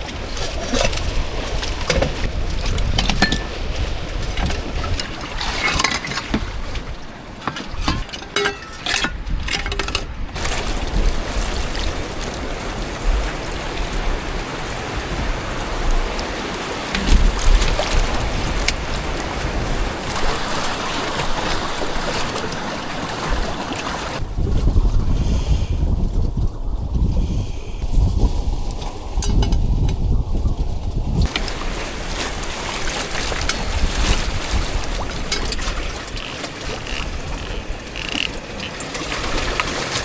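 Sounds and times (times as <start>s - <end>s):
water splashing around raft: 0.0s - 24.2s, 31.2s - 40.0s
wind rumble on microphone: 0.0s - 40.0s.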